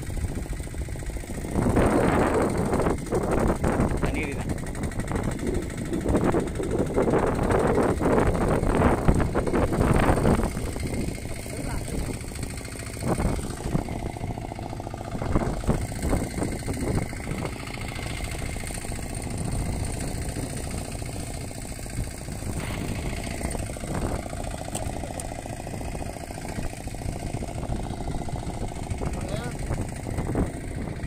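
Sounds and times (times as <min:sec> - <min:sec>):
boat engine idling: 0:00.0 - 0:31.0.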